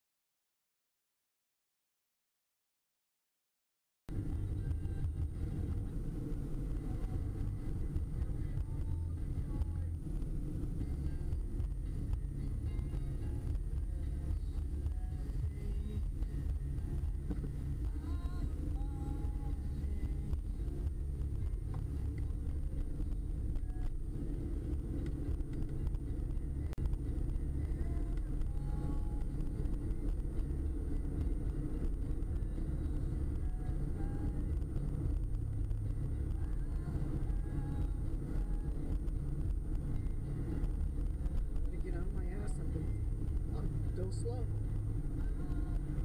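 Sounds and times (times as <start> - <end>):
car road noise from inside: 4.1 - 46.0.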